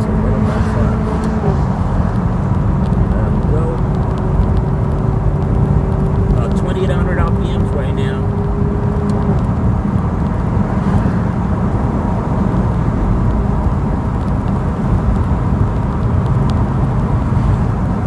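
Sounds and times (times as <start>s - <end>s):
car engine cruising: 0.0s - 18.0s.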